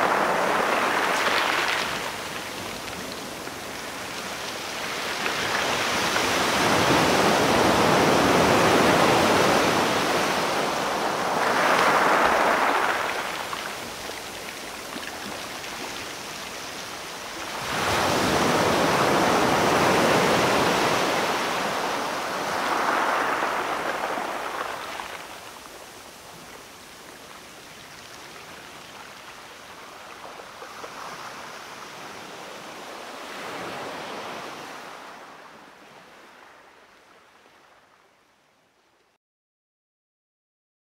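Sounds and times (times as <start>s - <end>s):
waves breaking on shore: 0.0s - 38.2s.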